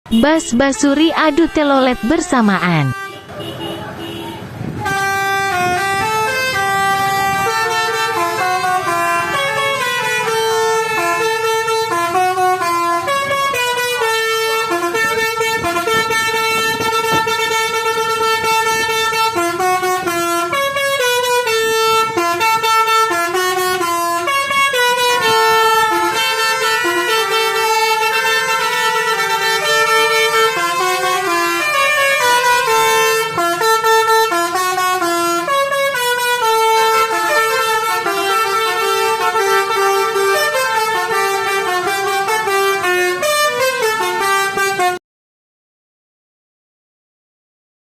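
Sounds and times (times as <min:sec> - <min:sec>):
musical bus air horns: 0:00.1 - 0:45.0.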